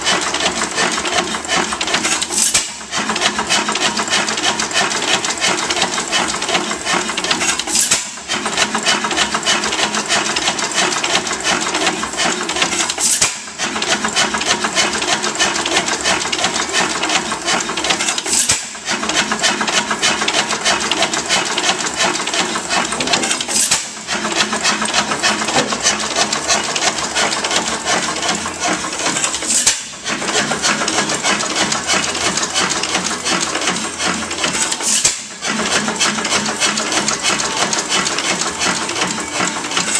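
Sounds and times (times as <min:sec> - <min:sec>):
engine mechanical clatter: 0:00.0 - 0:39.9.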